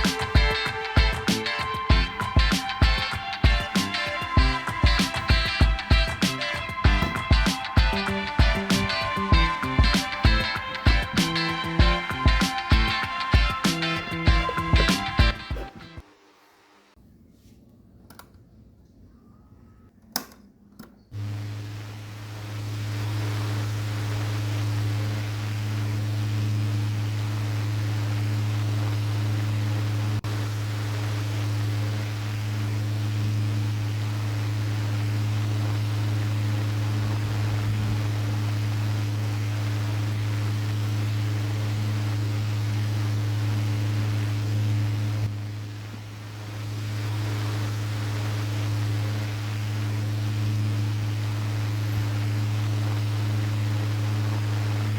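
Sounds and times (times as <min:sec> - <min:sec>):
desk fan running: 0:00.0 - 0:16.9, 0:21.2 - 0:54.9.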